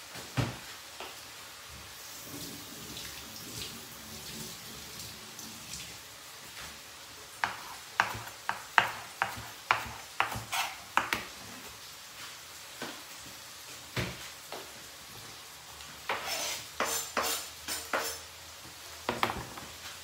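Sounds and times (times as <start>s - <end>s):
sizzling in a frying pan: 0.0s - 20.0s.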